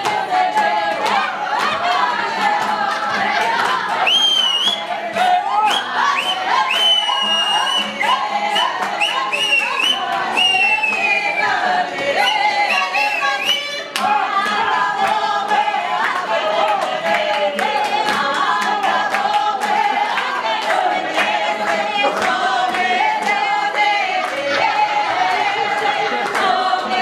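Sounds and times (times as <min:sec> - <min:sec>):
hand clapping: 0:00.0 - 0:05.8, 0:06.7 - 0:11.1, 0:13.8 - 0:27.0
acoustic guitar: 0:00.0 - 0:27.0
group singing folk song: 0:00.0 - 0:27.0.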